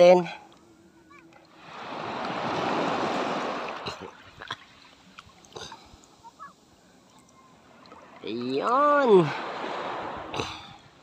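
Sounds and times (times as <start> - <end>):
seawater splashing: 1.1 - 6.6, 7.5 - 11.0.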